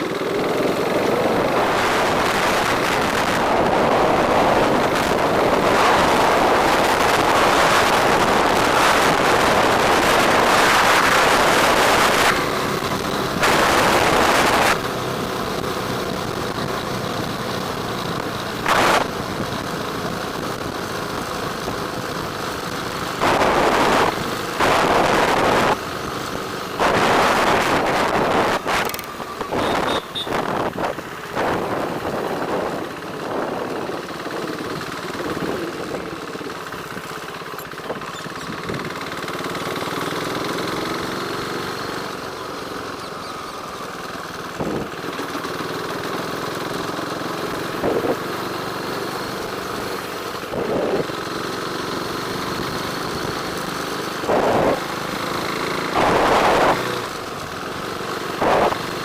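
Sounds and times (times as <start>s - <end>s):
motorcycle engine hum: 0.0s - 59.0s
road and traffic noise: 0.0s - 59.0s.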